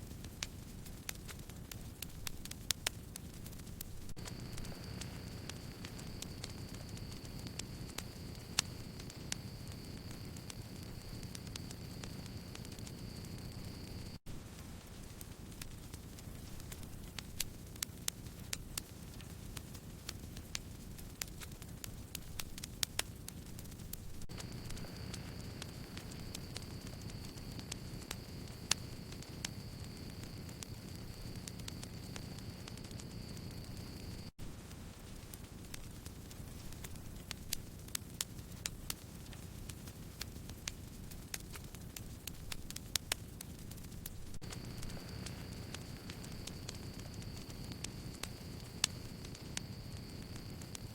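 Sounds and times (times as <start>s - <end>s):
campfire crackling and popping: 0.0s - 50.9s
low hiss of flames: 0.0s - 50.9s.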